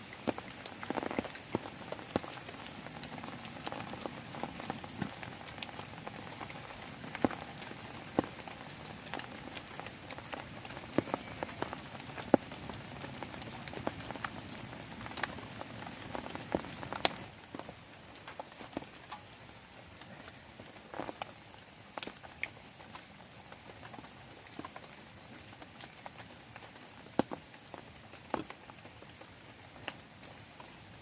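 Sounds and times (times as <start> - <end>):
high insect chirr: 0.0 - 31.0
rain pattering on plastic tarp: 0.0 - 31.0.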